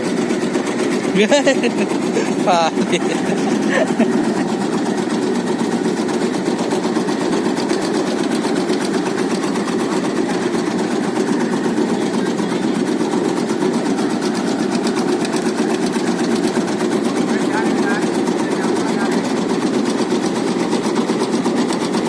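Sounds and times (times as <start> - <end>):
tobacco cutting machine rattling: 0.0 - 22.0.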